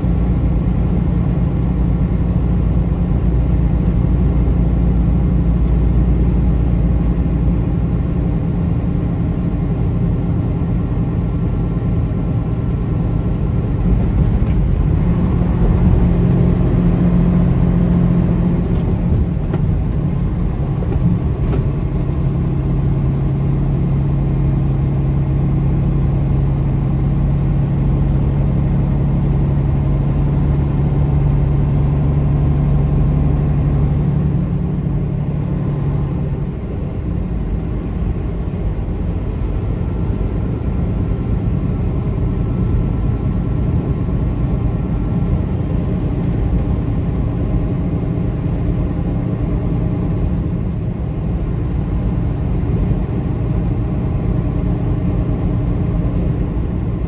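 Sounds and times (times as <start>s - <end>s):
car engine and road rumble: 0.0s - 57.0s
low engine hum: 0.0s - 57.0s.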